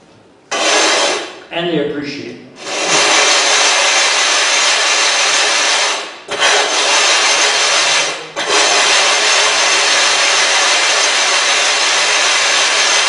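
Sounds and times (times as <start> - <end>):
water stone scraping: 0.5 - 1.4, 2.6 - 13.0.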